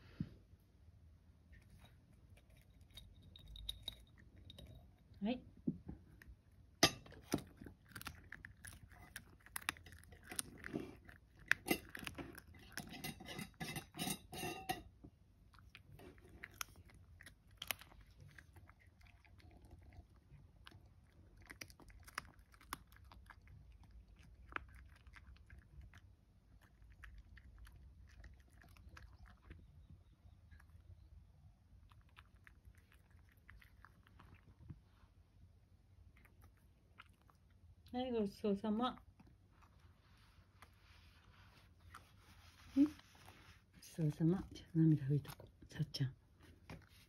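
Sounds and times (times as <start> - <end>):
cat crunching and chewing: 1.3 - 5.2, 5.9 - 47.0.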